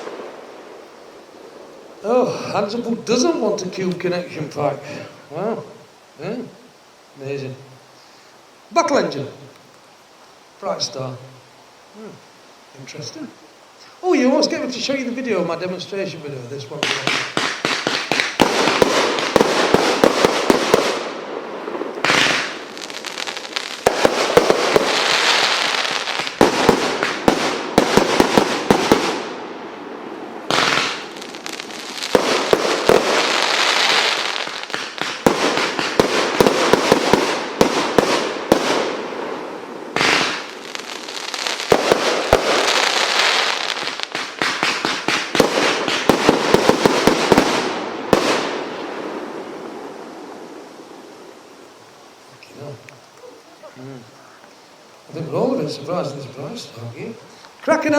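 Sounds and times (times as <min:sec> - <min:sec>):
fireworks crackling and popping: 0:00.0 - 0:57.9.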